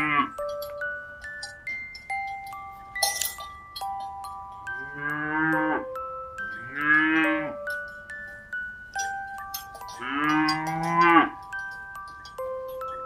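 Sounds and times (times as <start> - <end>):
gentle chiming melody: 0.0 - 13.0.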